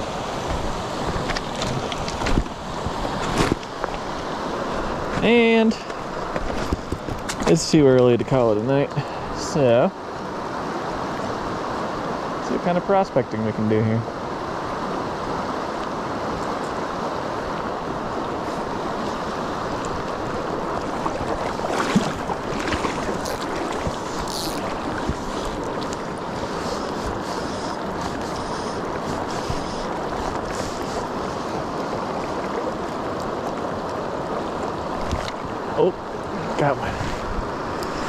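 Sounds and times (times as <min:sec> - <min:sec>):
river flowing over rocks: 0:00.0 - 0:13.0, 0:14.1 - 0:38.0.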